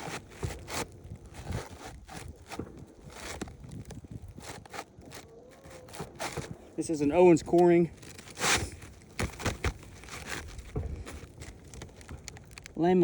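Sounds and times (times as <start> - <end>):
shingle scraping on roof: 0.0 - 12.8.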